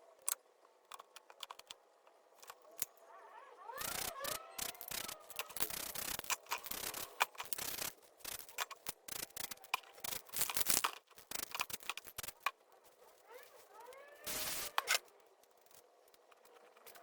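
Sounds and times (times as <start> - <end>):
sharp clicks: 0.2 - 12.6, 13.8 - 17.0.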